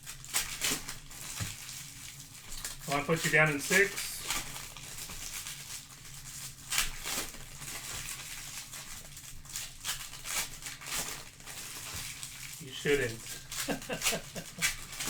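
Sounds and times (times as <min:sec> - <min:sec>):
rustling handling noises: 0:00.0 - 0:15.0.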